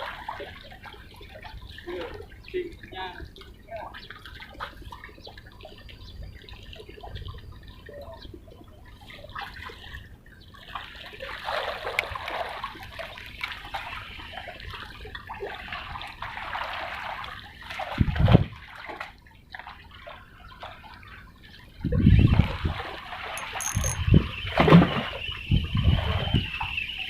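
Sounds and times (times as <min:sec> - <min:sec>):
water sloshing and splashing: 0:00.0 - 0:08.1, 0:08.8 - 0:23.4.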